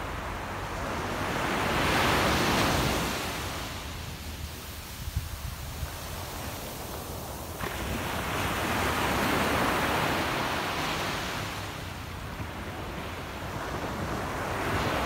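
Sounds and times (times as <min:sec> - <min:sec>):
small waves breaking on beach: 0:00.0 - 0:15.0
wind buffeting microphone: 0:00.9 - 0:15.0.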